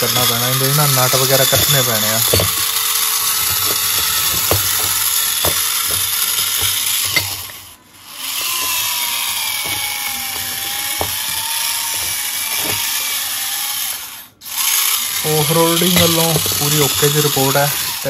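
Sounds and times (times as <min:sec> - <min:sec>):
small electric motor whining: 0:00.0 - 0:18.0.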